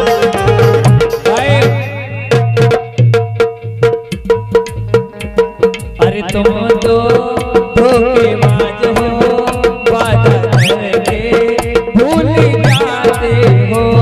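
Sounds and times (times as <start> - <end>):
fast hand drum rhythm: 0.0 - 14.0.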